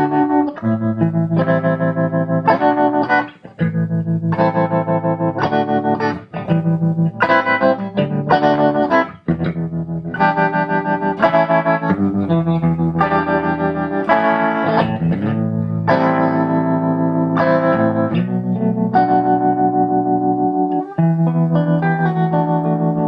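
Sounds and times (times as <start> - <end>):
electric guitar chords with tremolo: 0.0 - 23.0.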